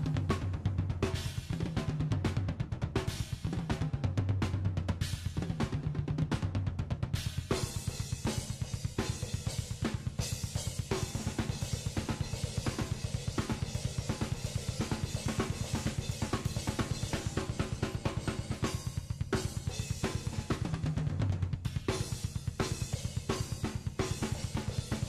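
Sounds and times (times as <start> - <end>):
fast bass drum strokes: 0.0 - 25.0.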